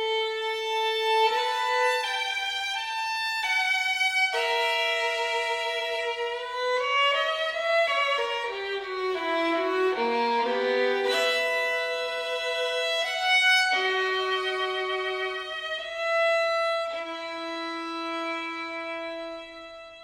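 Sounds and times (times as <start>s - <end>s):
bowed violin melody: 0.0s - 20.0s.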